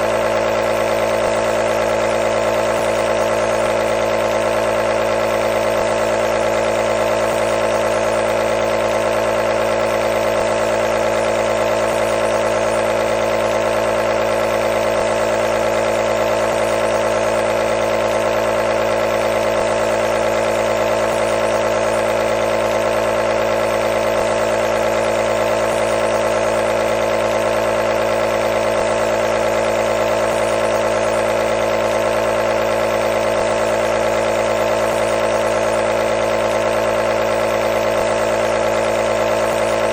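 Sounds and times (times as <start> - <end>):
nebulizer compressor humming: 0.0 - 39.9.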